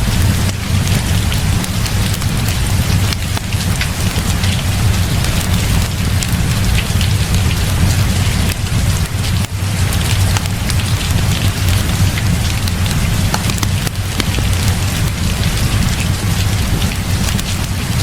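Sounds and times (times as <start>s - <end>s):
heavy rain pouring: 0.0s - 18.0s
sharp raindrop ticks: 0.0s - 18.0s.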